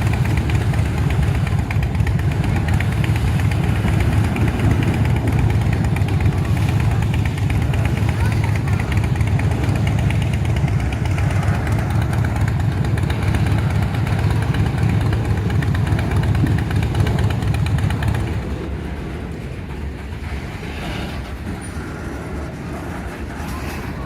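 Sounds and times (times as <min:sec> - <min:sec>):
freight train passing: 0:00.0 - 0:24.0.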